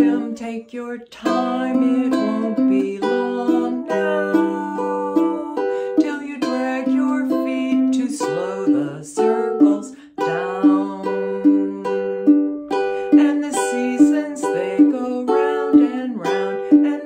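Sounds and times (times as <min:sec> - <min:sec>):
ukulele strumming: 0:00.0 - 0:17.0
woman singing: 0:00.0 - 0:17.0.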